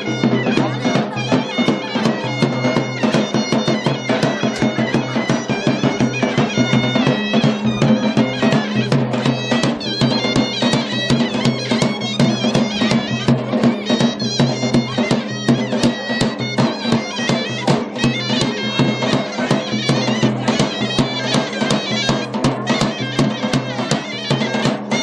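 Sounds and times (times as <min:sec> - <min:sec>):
large drum beats: 0:00.0 - 0:25.0
reedy wind instrument melody: 0:00.0 - 0:25.0.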